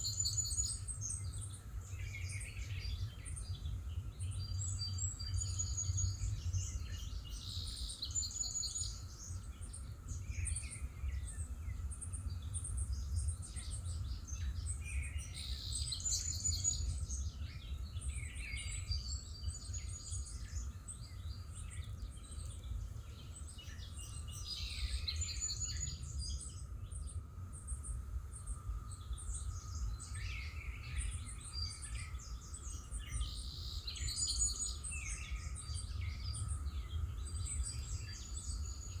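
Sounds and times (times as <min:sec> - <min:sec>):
songbirds singing and calling: 0:00.0 - 0:39.0.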